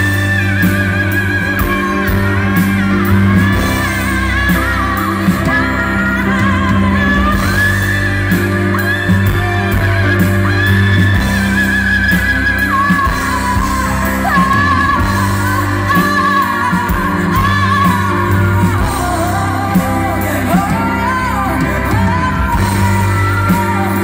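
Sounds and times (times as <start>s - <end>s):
bass: 0.0s - 24.0s
keyboard chords: 0.0s - 24.0s.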